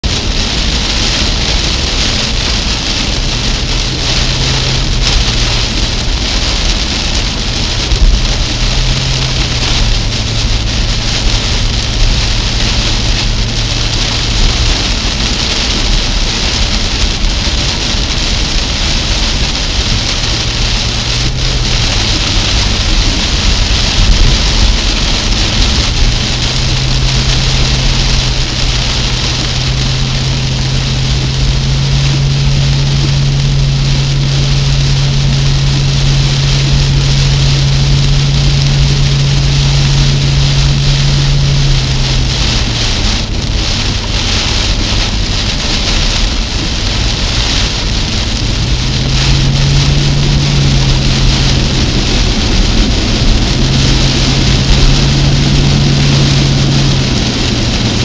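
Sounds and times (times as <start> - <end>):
heavy rain on car roof: 0.0 - 58.0
low engine drone: 0.0 - 58.0
tyres hissing on wet road: 0.0 - 58.0.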